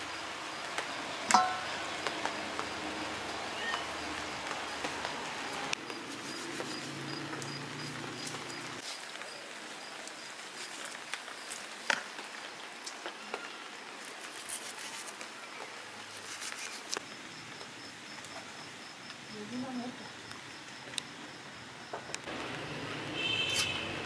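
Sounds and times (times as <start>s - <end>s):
light rain patter: 0.0s - 24.0s.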